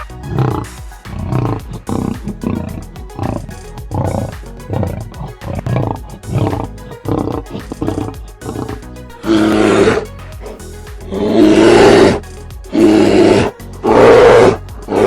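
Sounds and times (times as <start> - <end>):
background music: 0.0 - 15.0
animal roaring: 0.3 - 10.0, 11.1 - 12.2, 12.8 - 15.0.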